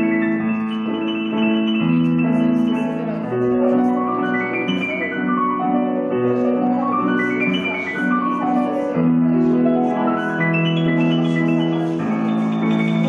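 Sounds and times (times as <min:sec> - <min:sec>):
piano playing: 0:00.0 - 0:13.0.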